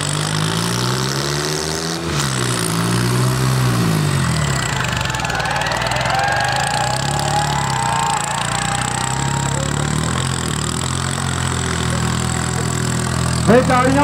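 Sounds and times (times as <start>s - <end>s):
tractor diesel engine running: 2.2s - 14.0s.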